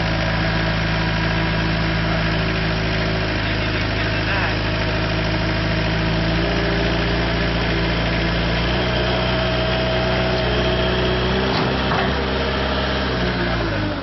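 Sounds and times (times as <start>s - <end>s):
teletruck engine running: 0.0s - 14.0s.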